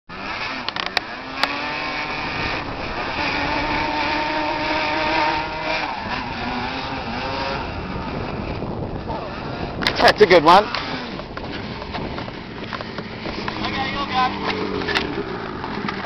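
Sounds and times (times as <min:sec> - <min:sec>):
quad bike engine accelerating: 0:00.1 - 0:16.0.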